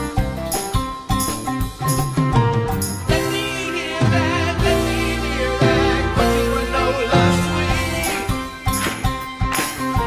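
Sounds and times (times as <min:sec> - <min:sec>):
pop band music: 0:00.0 - 0:10.0.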